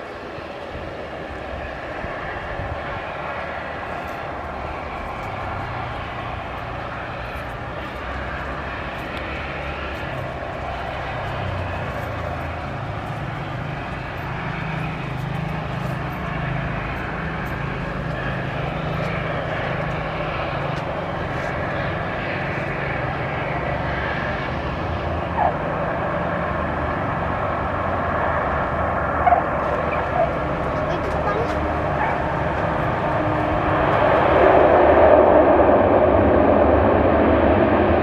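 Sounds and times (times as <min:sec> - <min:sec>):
broad rushing noise: 0:00.0 - 0:38.0
propeller aircraft drone: 0:00.0 - 0:38.0.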